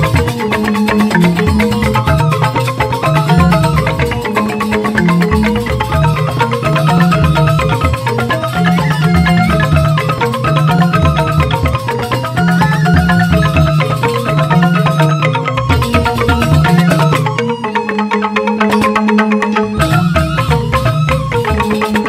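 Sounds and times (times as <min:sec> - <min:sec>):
bamboo flutes: 0:00.0 - 0:22.0
bamboo xylophones struck with mallets: 0:00.0 - 0:22.0.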